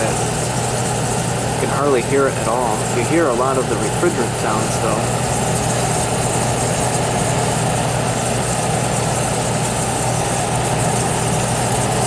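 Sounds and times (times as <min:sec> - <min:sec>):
dehumidifier humming: 0:00.0 - 0:12.0.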